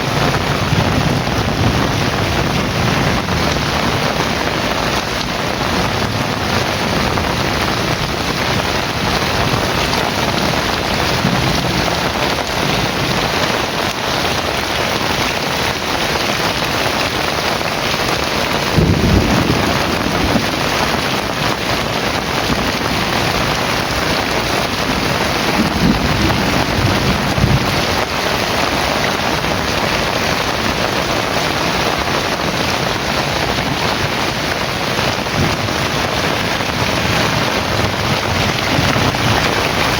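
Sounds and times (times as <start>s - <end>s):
low rumble of thunder: 0.0s - 14.2s, 18.4s - 31.0s, 32.0s - 39.9s
heavy rain falling: 0.0s - 39.9s.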